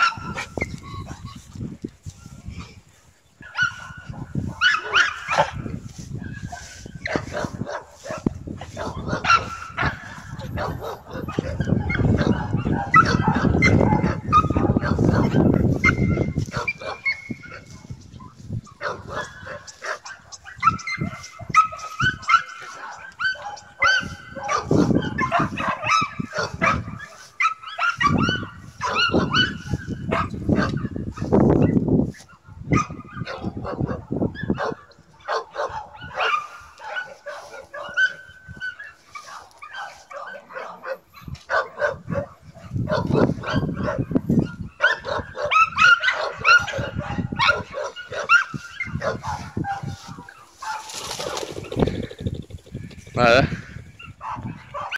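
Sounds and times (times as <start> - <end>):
dog barking and yipping: 0.0 - 1.5, 3.4 - 52.1, 54.0 - 54.9.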